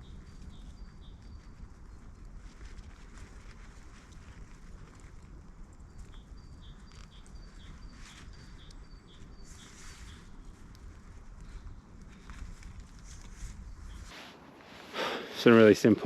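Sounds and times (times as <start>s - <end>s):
rustles and light clicks: 0.0s - 14.9s
faint wind: 0.0s - 16.0s.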